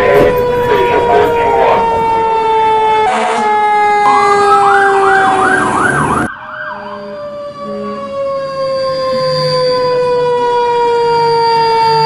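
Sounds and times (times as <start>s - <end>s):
fast cycling siren: 0.0s - 12.0s
steady siren falling in pitch: 0.0s - 12.0s.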